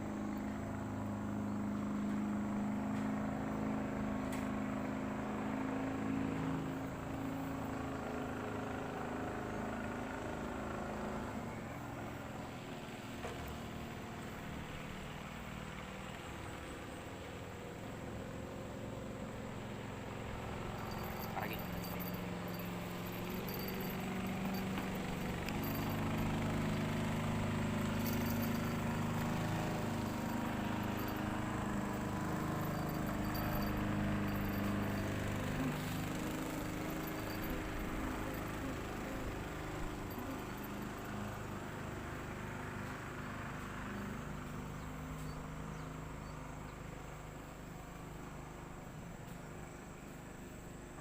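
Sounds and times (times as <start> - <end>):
small engine humming: 0.0 - 51.0.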